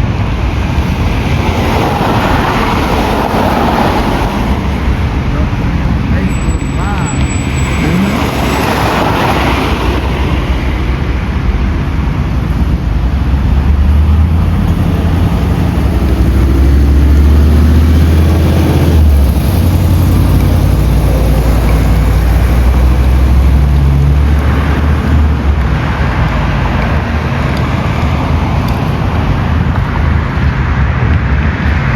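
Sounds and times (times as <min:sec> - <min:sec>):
vehicle engine and road rumble: 0:00.0 - 0:31.9.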